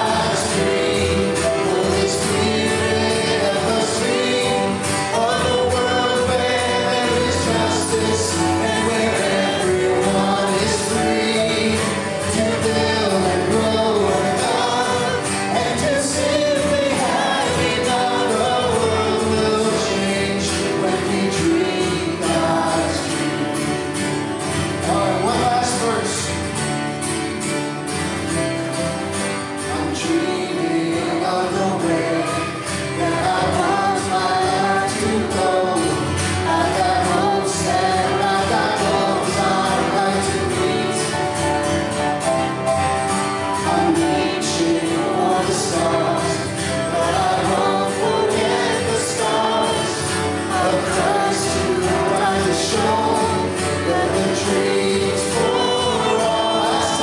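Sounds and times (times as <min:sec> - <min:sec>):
man singing into a microphone: 0:00.0 - 0:24.0, 0:24.7 - 0:26.4, 0:29.6 - 0:41.6, 0:43.6 - 0:57.0
acoustic guitar: 0:00.0 - 0:57.0
piano: 0:00.0 - 0:57.0.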